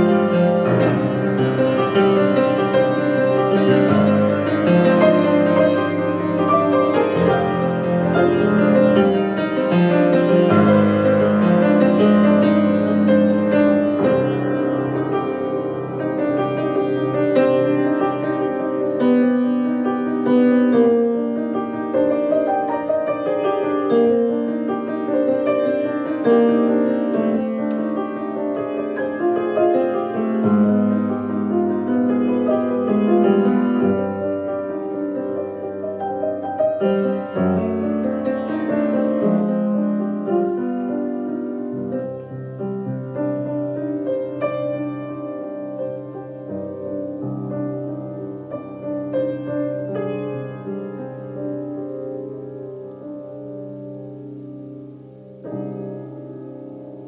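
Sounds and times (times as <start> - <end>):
piano piece: 0.0 - 57.0.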